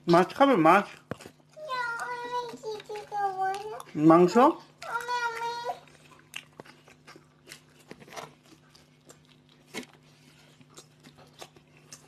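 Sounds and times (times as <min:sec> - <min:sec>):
chewing crunchy sandwiches: 0:00.0 - 0:12.0.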